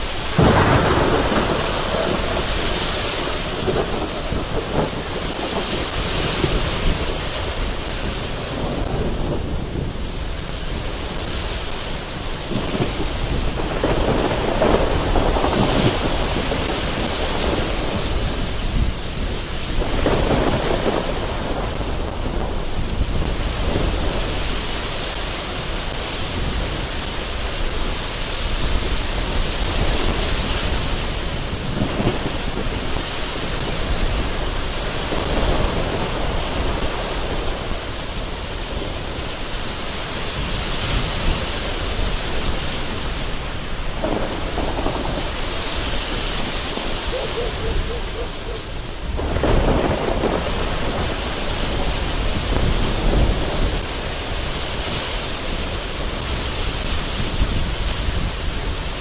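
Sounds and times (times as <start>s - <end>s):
thunder rolling: 0.0s - 27.4s, 28.6s - 39.4s, 40.2s - 58.9s
gusting wind: 0.0s - 59.0s
heavy rain against a window: 0.0s - 59.0s.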